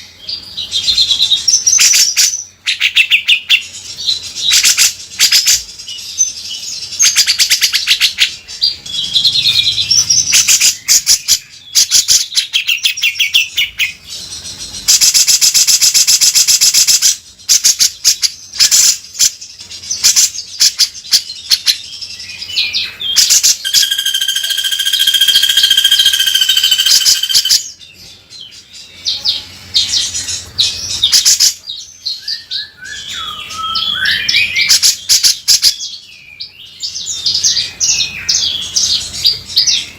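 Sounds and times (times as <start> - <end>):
bulbul singing harsh rasping song: 0.0 - 39.9
steady whistled bird notes: 0.0 - 39.9.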